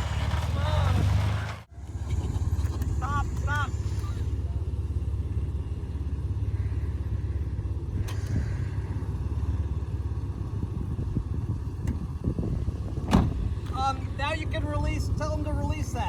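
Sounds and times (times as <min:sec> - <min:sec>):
engine idling low rumble: 0:00.0 - 0:16.0.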